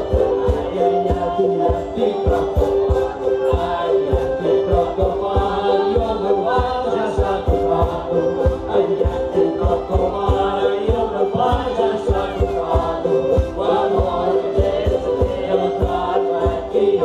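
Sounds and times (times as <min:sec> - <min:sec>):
group singing over a drone: 0:00.0 - 0:17.0
thumping beat: 0:00.0 - 0:17.0.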